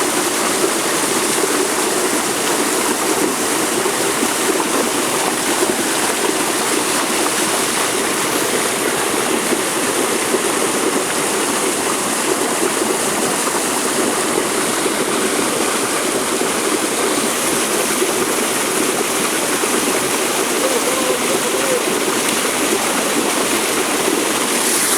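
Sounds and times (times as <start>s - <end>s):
stream water rushing: 0.0s - 24.9s.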